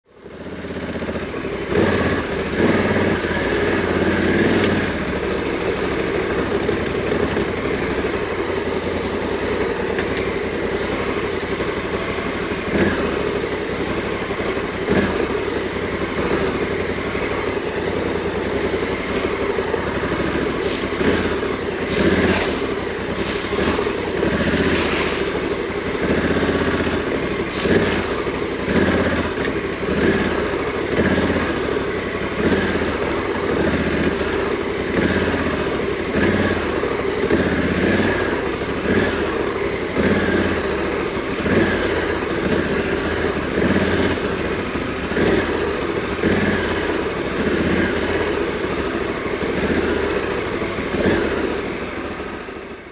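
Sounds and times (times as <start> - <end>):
motorcycle engine surging: 0.0 - 52.9.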